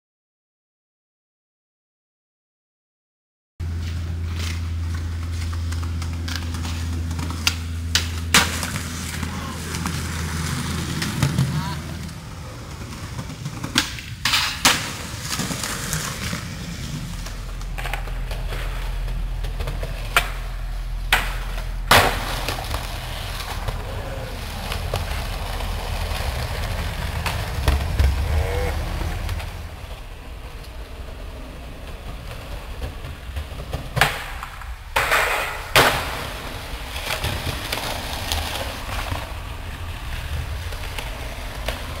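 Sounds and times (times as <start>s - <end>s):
skateboard wheels rolling on concrete: 3.6s - 42.0s
skateboard clacking on pavement: 4.5s - 20.5s, 21.1s - 42.0s.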